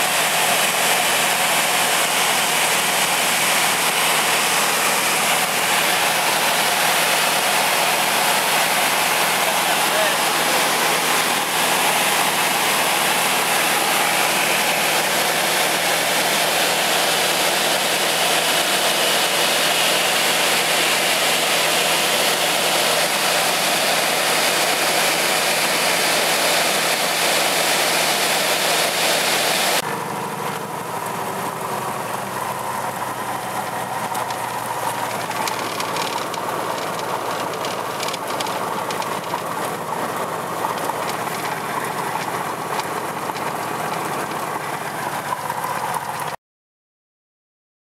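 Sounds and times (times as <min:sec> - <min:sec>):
aircraft engine and propeller drone: 0:00.0 - 0:46.4.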